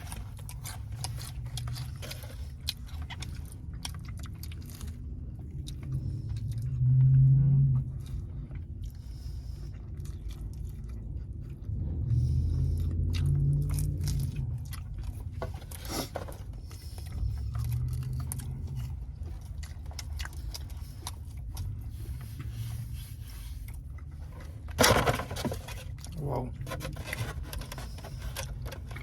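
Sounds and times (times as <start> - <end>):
chewing and biting food: 0.0 - 29.0
steady low rumble: 0.0 - 29.0.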